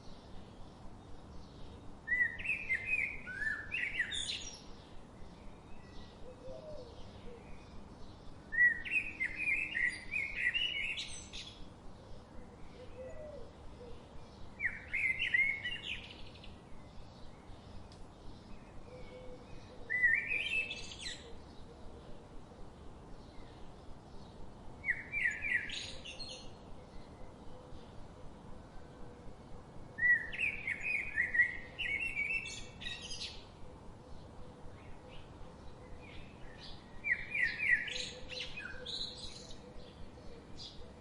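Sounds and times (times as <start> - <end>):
steady low hiss: 0.0 - 41.0.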